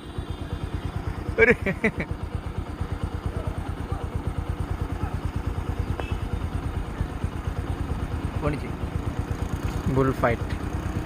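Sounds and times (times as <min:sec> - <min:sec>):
engine chugging: 0:00.0 - 0:11.0.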